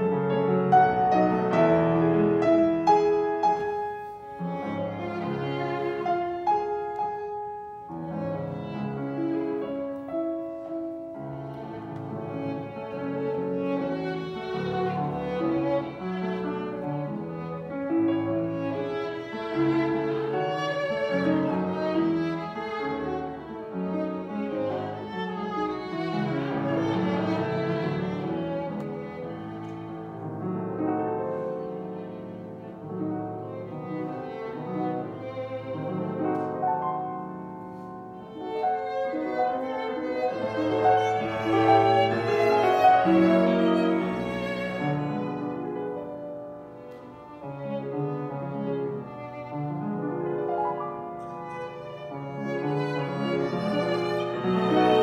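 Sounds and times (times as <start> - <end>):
piano: 0.0 - 55.0
violin and bowed strings: 0.0 - 55.0.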